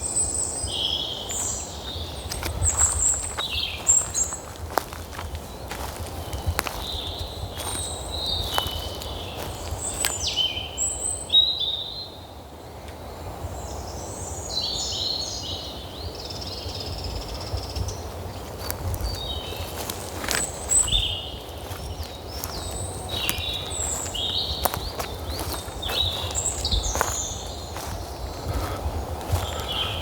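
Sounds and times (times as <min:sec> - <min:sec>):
birds singing: 0:00.0 - 0:30.0.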